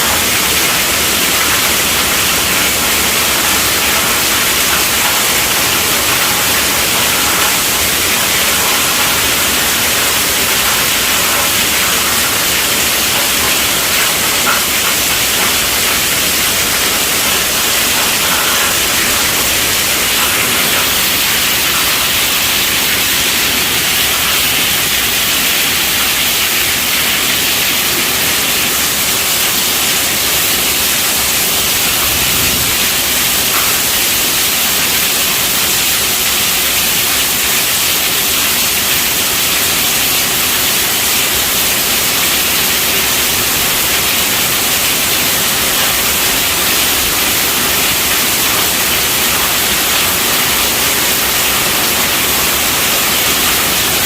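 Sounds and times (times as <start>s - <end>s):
heavy rain on a tent roof: 0.0s - 54.0s.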